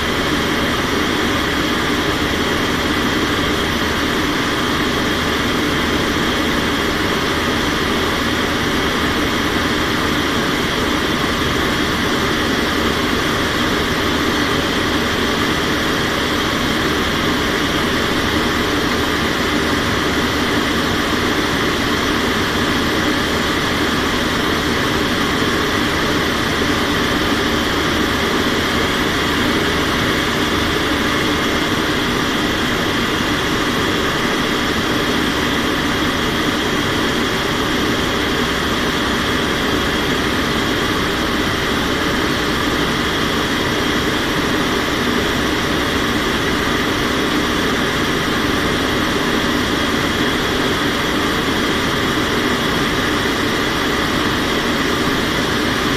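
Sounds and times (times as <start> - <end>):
aircraft engines and rushing air: 0.0 - 55.9.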